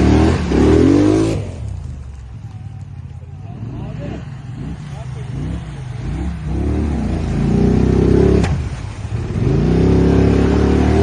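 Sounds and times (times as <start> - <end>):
off-road vehicle engine revving: 0.0 - 1.8, 3.4 - 11.0.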